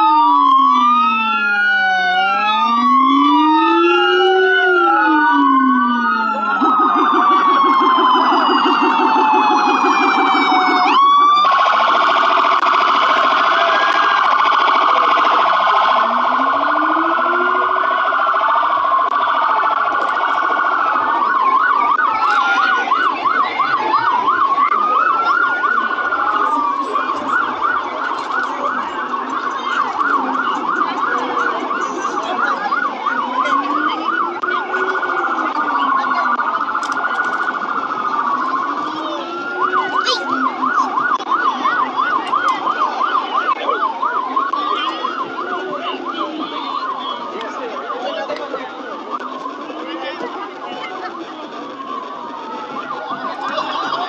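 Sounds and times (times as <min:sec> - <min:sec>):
siren yelping: 0:00.0 - 0:54.0
sirens wailing: 0:00.0 - 0:54.0.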